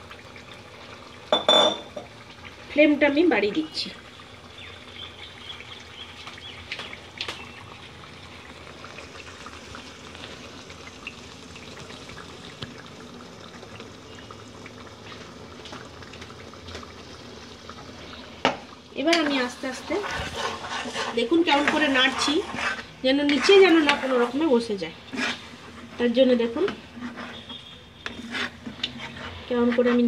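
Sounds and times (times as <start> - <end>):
gravy sizzling and bubbling: 0.0 - 30.0.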